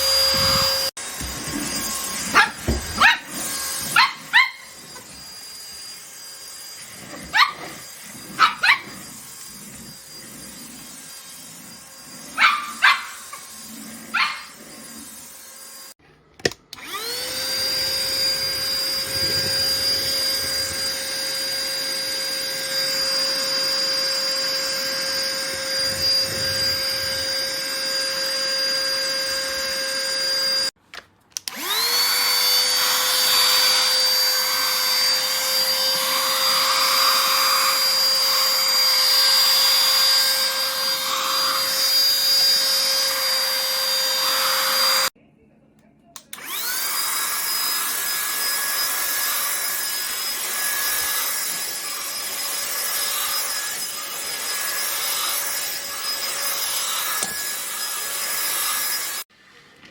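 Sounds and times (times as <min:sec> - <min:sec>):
vacuum cleaner motor whining: 0:00.0 - 0:30.8, 0:31.4 - 0:45.2, 0:46.2 - 0:59.9.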